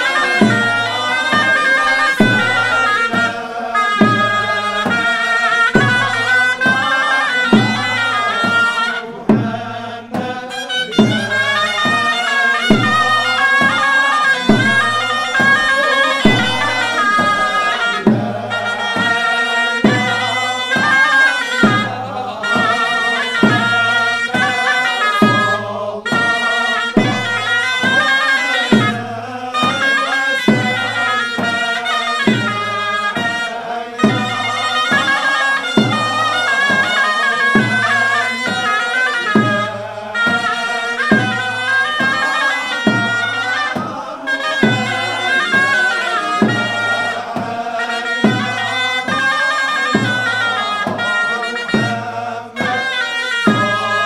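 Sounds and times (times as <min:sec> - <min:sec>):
drum beat struck with stick: 0:00.0 - 0:54.0
shawm playing nasal melody: 0:00.0 - 0:54.0.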